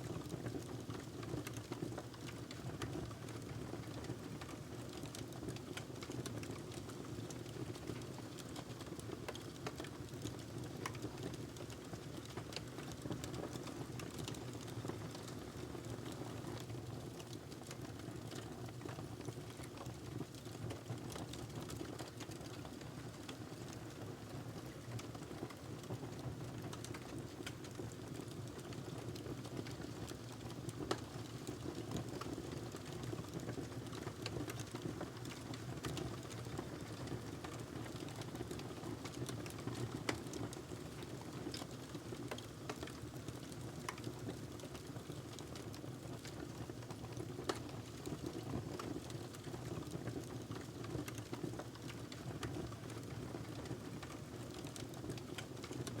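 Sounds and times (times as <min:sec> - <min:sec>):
wood fire crackling: 0:00.1 - 0:56.0
fire popping and snapping: 0:04.1 - 0:23.7, 0:24.7 - 0:56.0.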